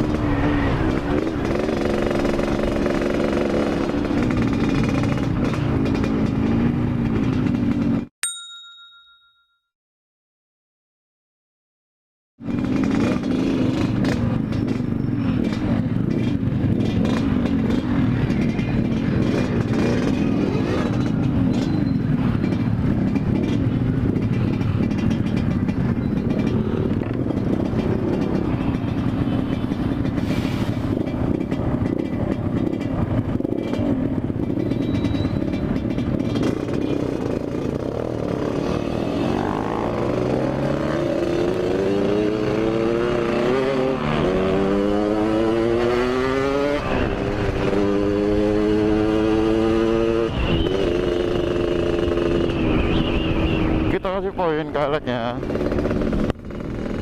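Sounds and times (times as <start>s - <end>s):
two-stroke motorcycle engine: 0.0s - 9.1s, 12.4s - 57.0s.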